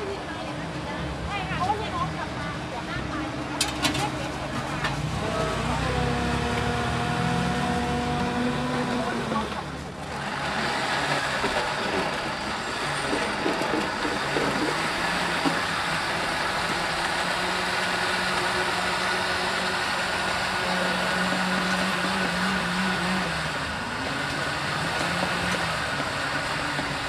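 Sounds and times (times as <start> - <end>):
blenders running: 5.0 - 27.0.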